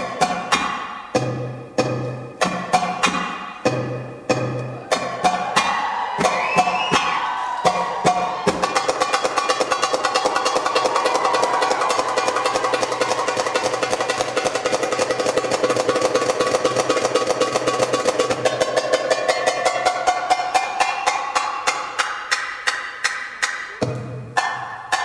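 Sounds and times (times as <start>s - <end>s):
hand drum strokes and rolls: 0.0s - 25.0s.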